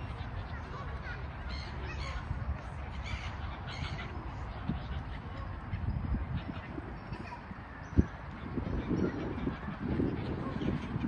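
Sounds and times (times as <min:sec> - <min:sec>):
gulls squawking: 0:00.0 - 0:11.0.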